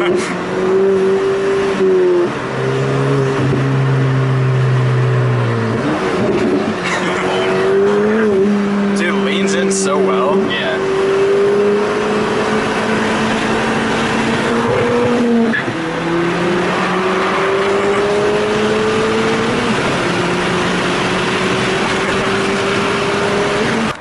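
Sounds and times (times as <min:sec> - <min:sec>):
car engine accelerating hard: 0:00.0 - 0:24.0
road and wind noise: 0:00.0 - 0:24.0.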